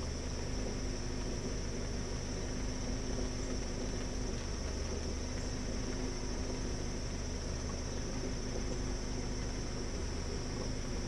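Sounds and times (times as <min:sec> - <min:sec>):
low even hum and hiss: 0:00.0 - 0:11.0.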